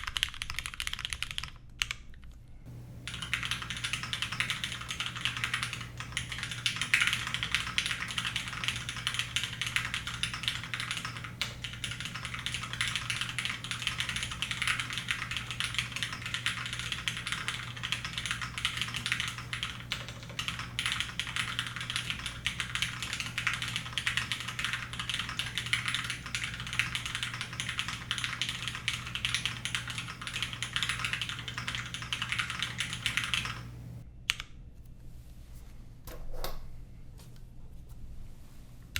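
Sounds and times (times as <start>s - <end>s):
fast typing on mechanical keyboard: 0.0s - 2.1s, 3.0s - 34.0s.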